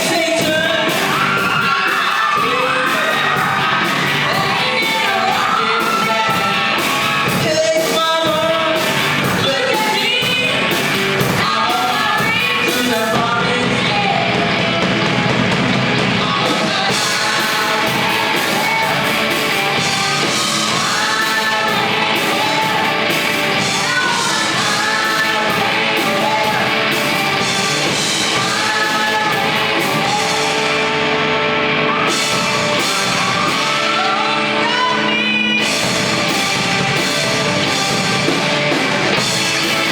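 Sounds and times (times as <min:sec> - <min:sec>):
lead singer singing: 0:00.0 - 0:39.9
live band playing: 0:00.0 - 0:39.9.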